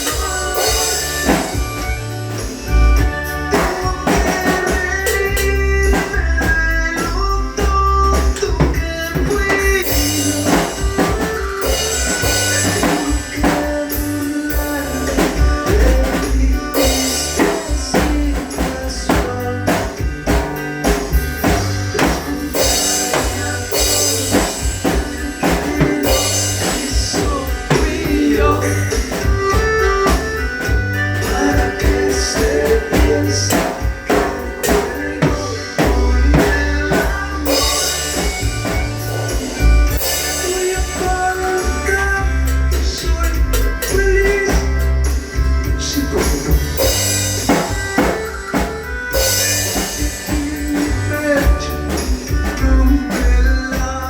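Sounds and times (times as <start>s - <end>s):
drum kit playing: 0.0s - 54.0s
recorded ballad with guitar and bass: 0.0s - 54.0s.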